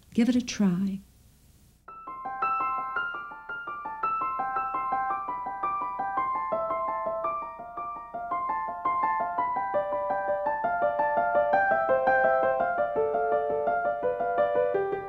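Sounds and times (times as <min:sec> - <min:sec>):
gentle piano melody: 0:01.9 - 0:15.0.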